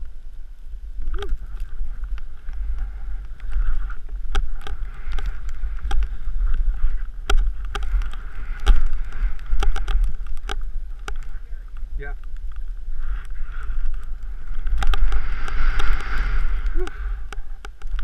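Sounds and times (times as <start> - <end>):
snow hiss: 0.0 - 18.0
wind rumbling on microphone: 0.0 - 18.0.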